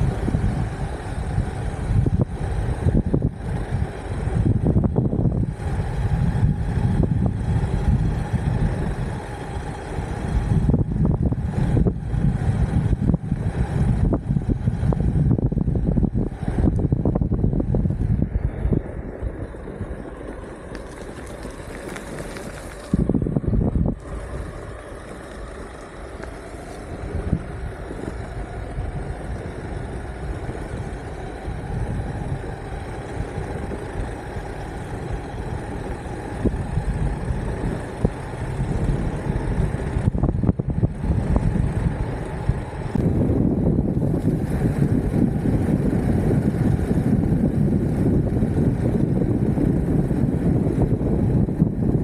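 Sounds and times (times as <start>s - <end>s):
electric skateboard rolling on road: 0.0s - 52.0s
wind rumbling on microphone: 0.0s - 52.0s.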